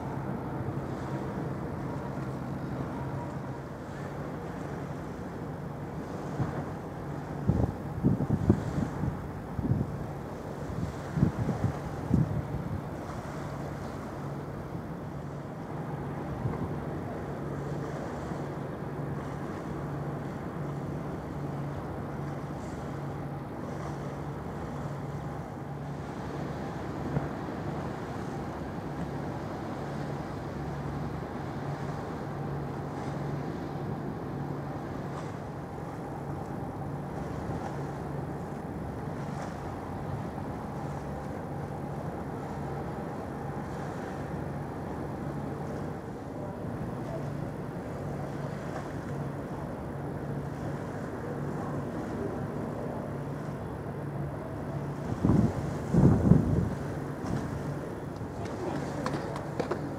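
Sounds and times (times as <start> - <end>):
ship diesel engines droning: 0.0 - 59.9.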